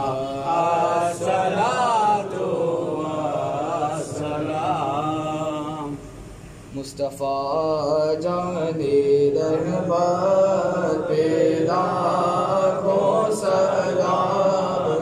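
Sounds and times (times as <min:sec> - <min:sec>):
young man chanting prayer: 0:00.0 - 0:15.0.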